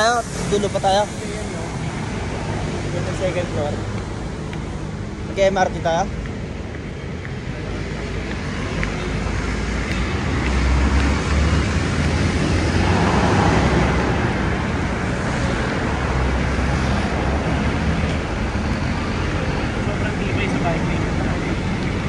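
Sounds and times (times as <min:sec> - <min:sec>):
highway traffic roar: 0:00.0 - 0:22.0.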